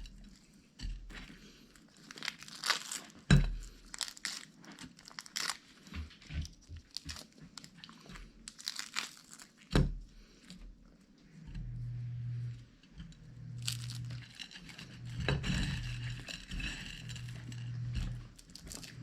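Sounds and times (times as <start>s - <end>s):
fish flesh tearing and crinkling: 1.1s - 11.0s, 13.6s - 19.0s.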